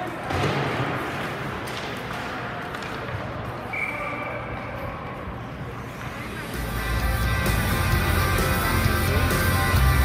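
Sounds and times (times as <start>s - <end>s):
crowd noise: 0.0s - 10.0s.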